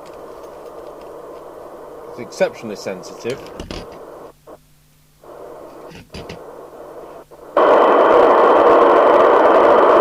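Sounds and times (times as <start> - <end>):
radio clicks and bursts: 0.0 - 4.6, 5.2 - 10.0
faint hum: 0.0 - 10.0
radio loudspeaker hiss: 0.0 - 10.0.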